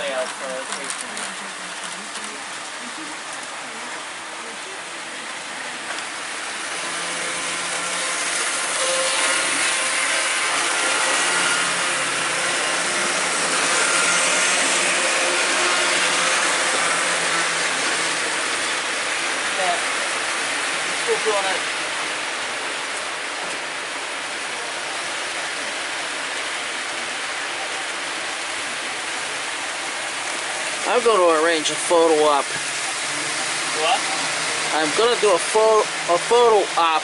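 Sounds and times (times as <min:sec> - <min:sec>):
model trains whirring on rails: 0:00.0 - 0:37.0.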